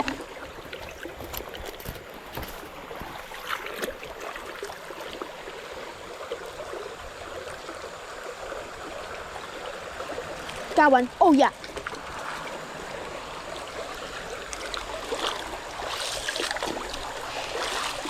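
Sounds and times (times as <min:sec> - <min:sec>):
creek water running over rocks: 0:00.0 - 0:18.0.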